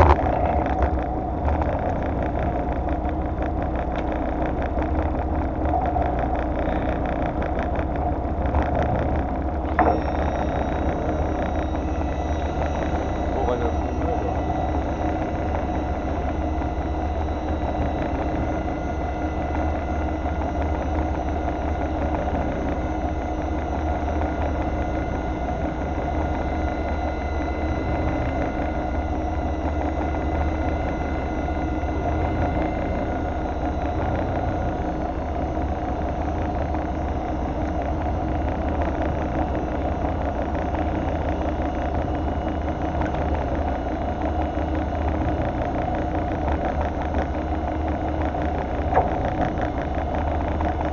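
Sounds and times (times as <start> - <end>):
boat engine humming: 0.0 - 50.9.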